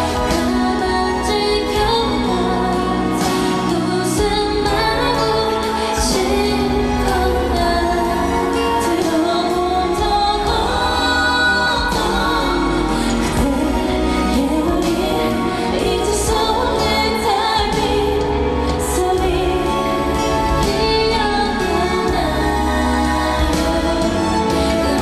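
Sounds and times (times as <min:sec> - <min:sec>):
second singer: 0:00.0 - 0:25.0
slow pop ballad backing music: 0:00.0 - 0:25.0
woman singing into microphone: 0:00.0 - 0:25.0.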